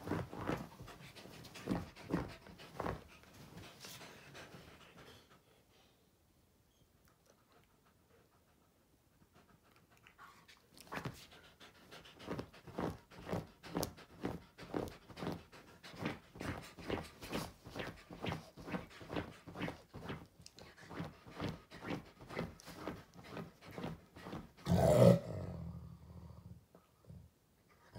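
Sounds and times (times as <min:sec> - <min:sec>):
dog panting: 0:00.0 - 0:06.0, 0:07.0 - 0:24.7.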